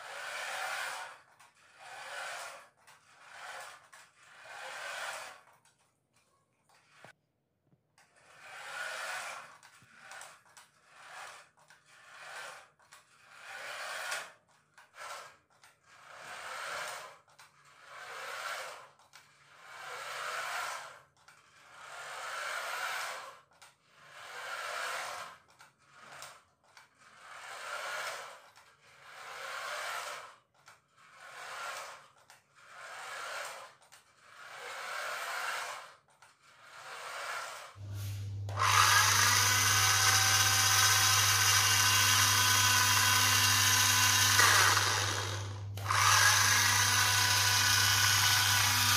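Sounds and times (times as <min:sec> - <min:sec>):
toy car electric motor whirring: 0:00.0 - 0:06.0, 0:06.7 - 0:07.2, 0:08.0 - 0:48.9.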